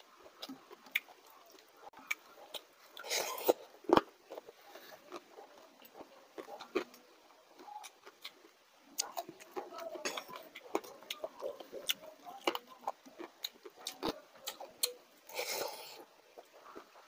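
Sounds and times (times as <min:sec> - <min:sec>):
chewing and lip smacks: 0:00.0 - 0:17.0.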